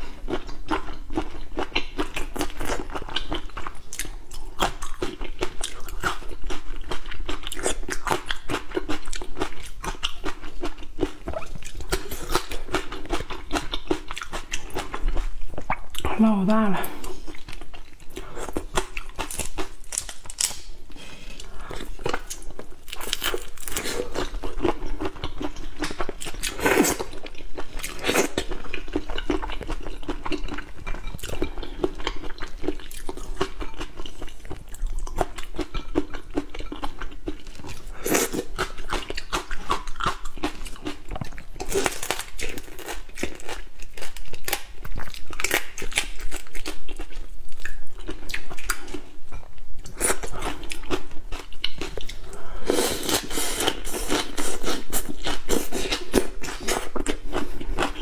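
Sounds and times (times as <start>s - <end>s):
chewing: 0.1s - 16.1s, 17.0s - 58.0s.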